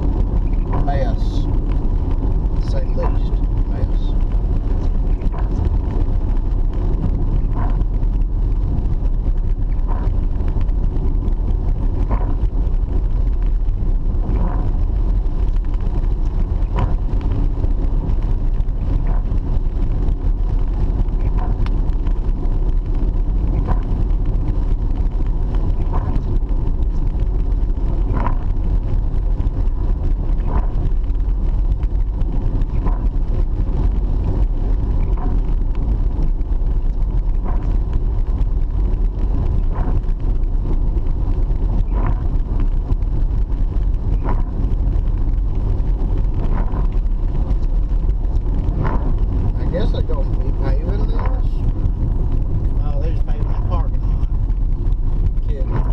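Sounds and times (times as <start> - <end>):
road and engine rumble in car: 0.0 - 55.9.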